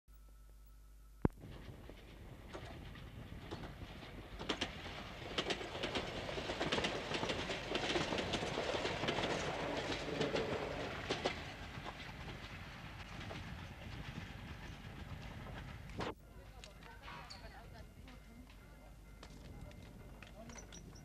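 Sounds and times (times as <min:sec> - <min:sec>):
train rumbling past: 0:01.4 - 0:21.0
wheels clacking over rail joints: 0:01.4 - 0:21.0.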